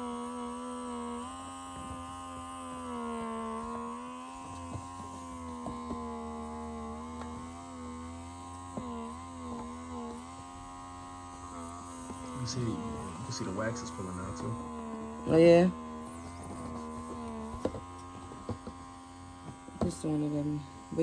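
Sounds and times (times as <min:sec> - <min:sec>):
small electric motor buzzing: 0:00.0 - 0:21.0.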